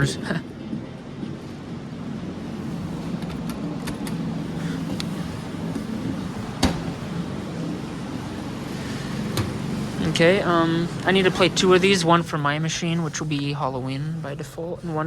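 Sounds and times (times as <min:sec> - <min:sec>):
machine humming: 0:01.9 - 0:15.0.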